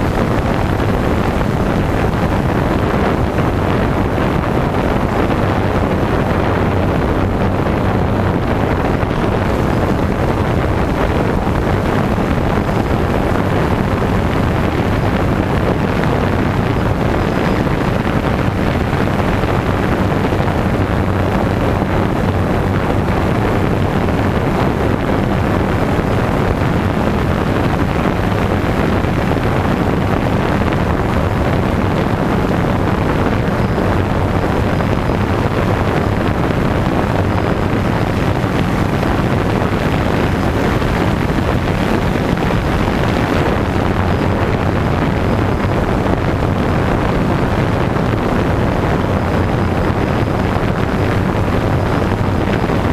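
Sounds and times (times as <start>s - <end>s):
drone motors and propellers humming: 0.0s - 52.9s
wind on microphone: 0.0s - 52.9s.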